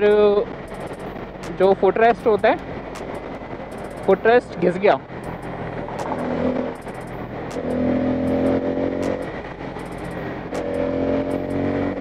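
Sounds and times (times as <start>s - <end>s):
low road rumble: 0.0s - 12.0s
motorcycle engine running: 0.0s - 12.0s.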